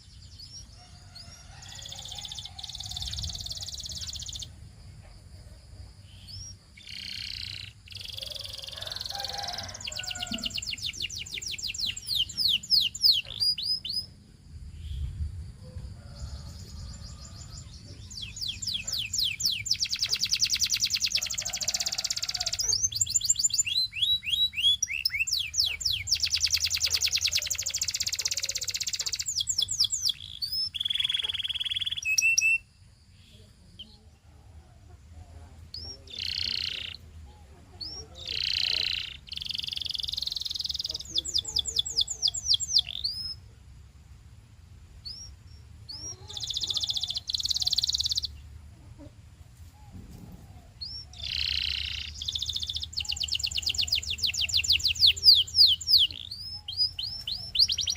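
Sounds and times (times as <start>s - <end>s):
canary singing trills: 0.0s - 4.6s, 6.0s - 14.2s, 16.0s - 43.6s, 45.0s - 49.2s, 49.8s - 57.9s.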